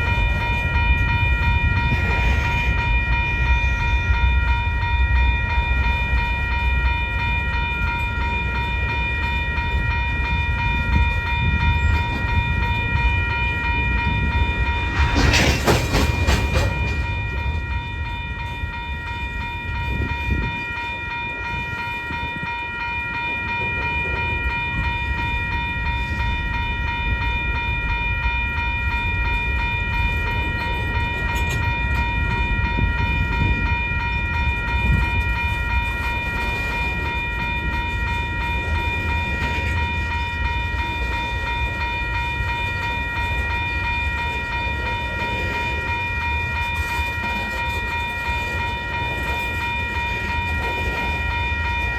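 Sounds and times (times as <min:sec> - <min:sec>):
freight train rumbling past: 0:00.0 - 0:51.9
high-pitched ringing tone: 0:00.0 - 0:51.9.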